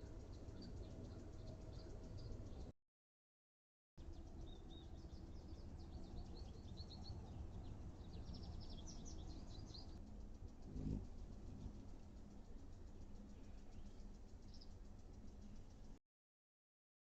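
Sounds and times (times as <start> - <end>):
birds chirping: 0.0 - 2.7, 4.0 - 16.0
low background noise: 0.0 - 2.7, 4.0 - 16.0.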